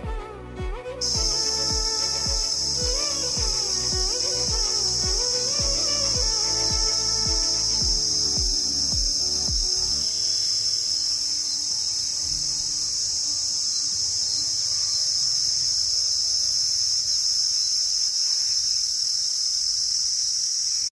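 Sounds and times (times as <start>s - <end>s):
insects shrilling: 1.0s - 20.9s.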